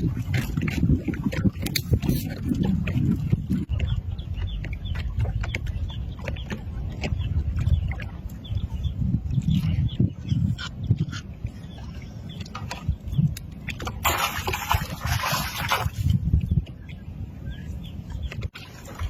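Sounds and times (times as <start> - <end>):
water splashing: 0.0 - 9.6, 10.6 - 17.0, 18.1 - 19.0
water sloshing around boat: 0.0 - 19.0.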